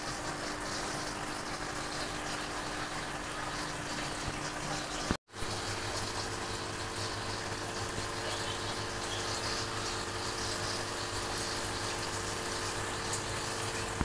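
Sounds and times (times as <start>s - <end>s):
water rushing and bubbling: 0.0s - 14.0s.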